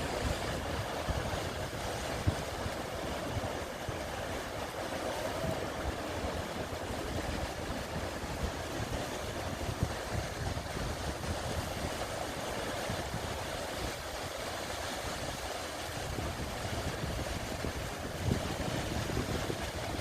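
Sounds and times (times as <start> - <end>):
waves washing onto beach: 0.0 - 20.0
wind buffeting microphone: 0.0 - 20.0.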